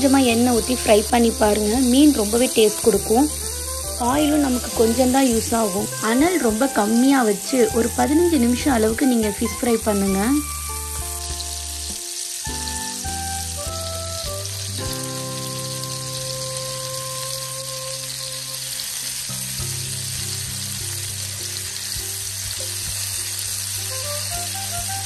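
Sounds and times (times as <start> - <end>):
fish sizzling in oil: 0.0 - 25.0
soft background music: 0.0 - 25.0.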